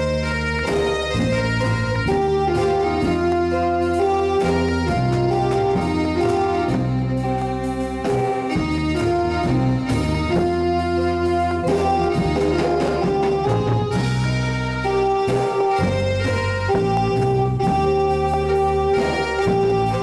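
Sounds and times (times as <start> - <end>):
electronic keyboard with organ tone: 0.0 - 20.0.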